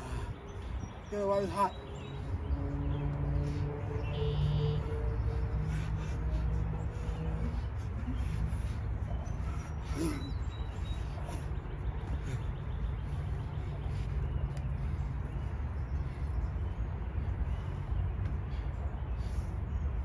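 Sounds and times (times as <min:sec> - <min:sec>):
steady low rumbling: 0:00.0 - 0:20.0.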